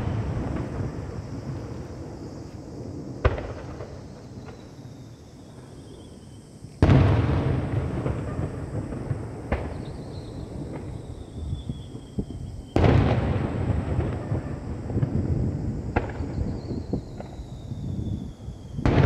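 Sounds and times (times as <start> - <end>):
firework crack: 0.0 - 5.7, 6.7 - 19.0
smaller firework bangs: 0.0 - 5.7, 6.8 - 19.0
faint firework whistle: 0.0 - 19.0.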